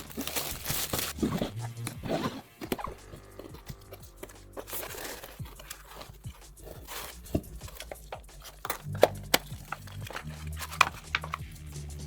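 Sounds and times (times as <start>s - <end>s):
faint low music: 0.0s - 12.0s.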